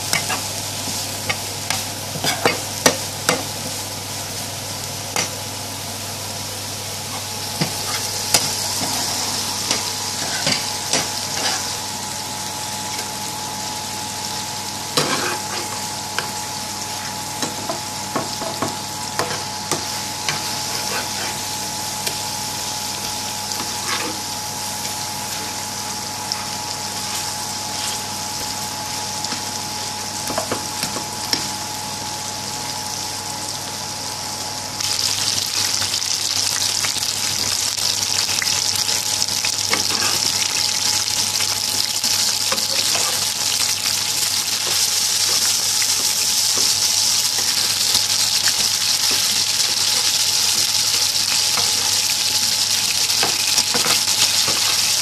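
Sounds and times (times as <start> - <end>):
burger patties sizzling in oil: 0.0 - 55.0.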